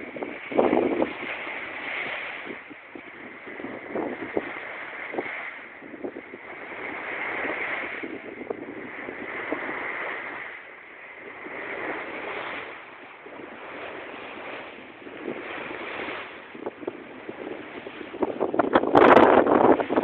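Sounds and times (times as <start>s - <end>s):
water rushing along a hull: 0.0s - 20.0s
wind buffeting microphone: 0.0s - 20.0s.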